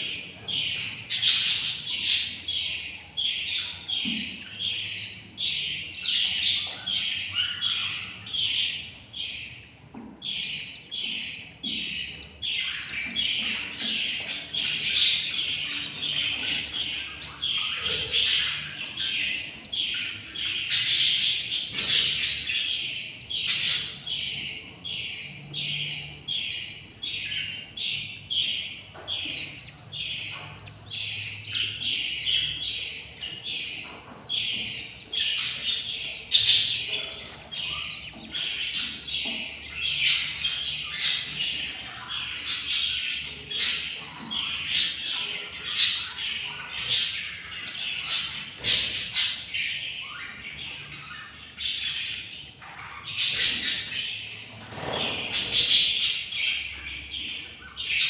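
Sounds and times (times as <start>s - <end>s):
chicks cheeping: 0.0s - 58.0s.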